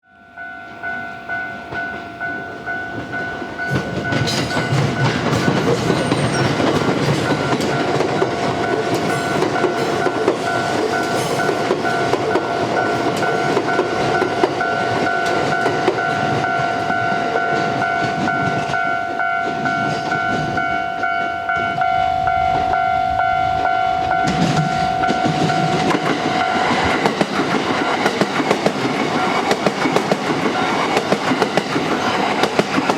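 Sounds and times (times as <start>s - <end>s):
level crossing alarm clanging: 0.7s - 32.6s
train wheels rumbling and clattering: 1.6s - 32.9s.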